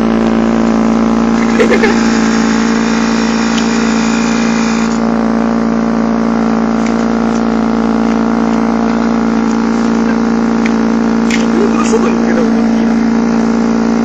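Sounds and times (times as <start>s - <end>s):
car exhaust idling drone: 0.0s - 14.0s.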